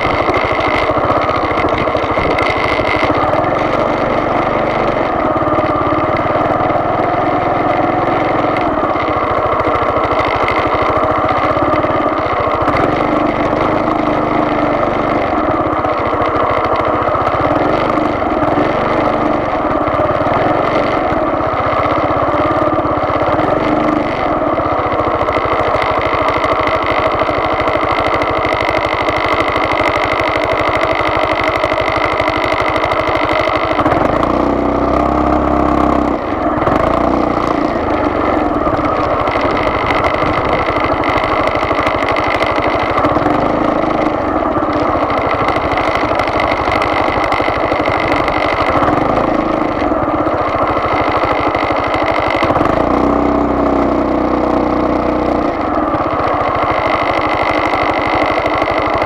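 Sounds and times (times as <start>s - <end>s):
road noise: 0.0s - 59.0s
vehicle engine: 0.0s - 59.0s.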